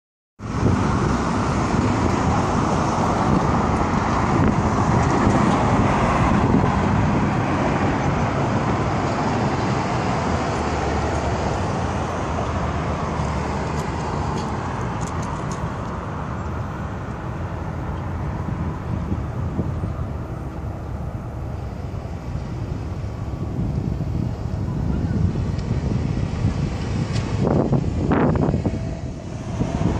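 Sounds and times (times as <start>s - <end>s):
car engine running loud: 0.4s - 29.9s
street traffic: 0.4s - 29.9s.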